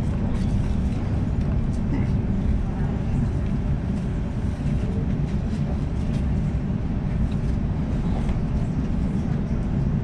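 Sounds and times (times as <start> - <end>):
electric train rumbling on track: 0.0 - 10.0.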